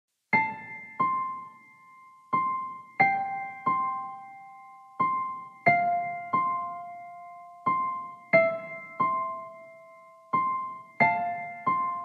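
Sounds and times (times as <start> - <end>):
slow piano-like keyboard melody: 0.3 - 12.0.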